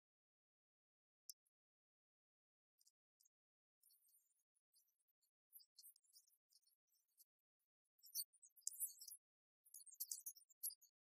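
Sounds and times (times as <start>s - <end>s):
faint high-pitched ticks and chirps: 0.0s - 11.0s.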